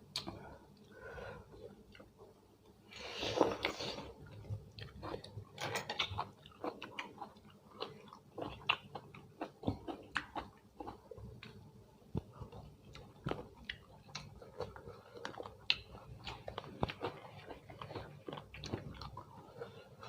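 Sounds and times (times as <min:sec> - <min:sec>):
person chewing with wet clicks: 0:00.1 - 0:00.9, 0:01.9 - 0:02.8, 0:03.4 - 0:20.0.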